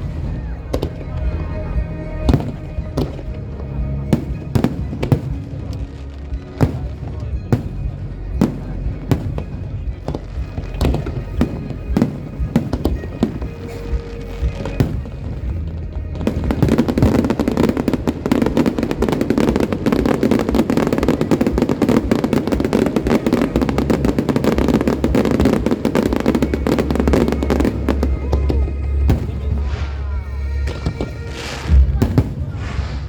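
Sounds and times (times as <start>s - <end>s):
fireworks crackling bursts: 0.0s - 33.0s
music with low bass: 0.0s - 33.0s.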